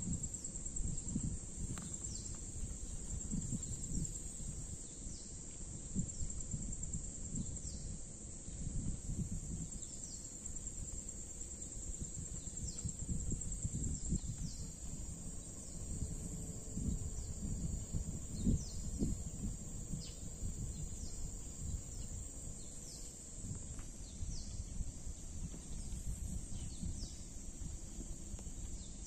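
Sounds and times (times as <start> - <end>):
high-pitched insect drone: 0.1 - 29.0.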